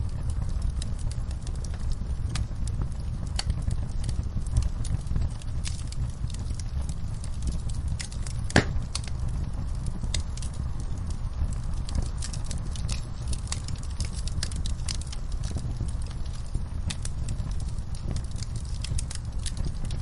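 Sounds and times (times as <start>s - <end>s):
low rumble of flames: 0.0s - 20.0s
wood fire crackling: 0.0s - 20.0s
sharp pops of burning wood: 0.1s - 20.0s.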